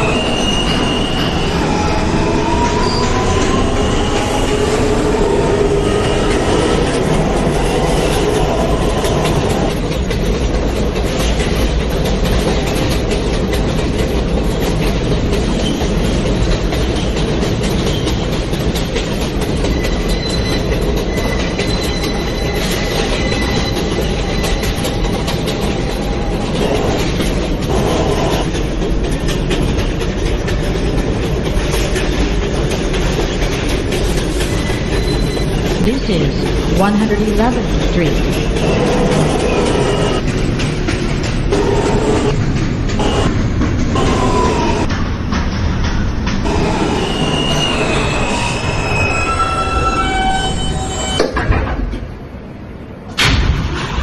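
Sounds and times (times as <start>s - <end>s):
subway train rumbling: 0.0s - 54.0s
wheels clicking over rail joints: 3.5s - 36.8s, 37.6s - 52.3s.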